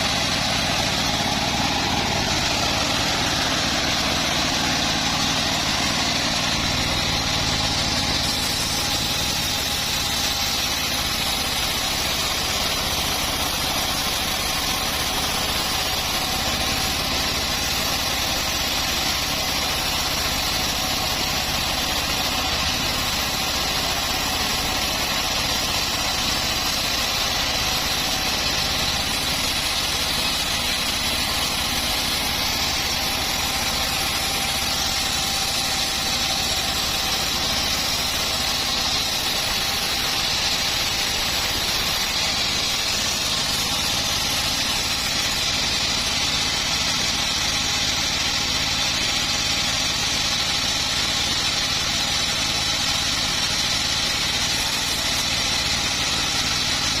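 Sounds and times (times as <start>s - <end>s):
bandsaw sawmill running: 0.0s - 57.0s.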